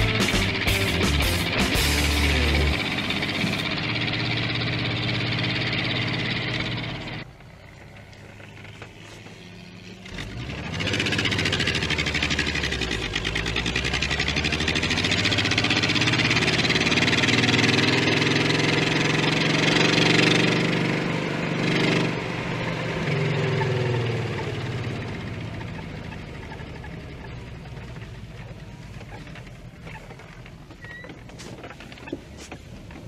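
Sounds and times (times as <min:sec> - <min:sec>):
engine with loud exhaust: 0:00.0 - 0:33.0.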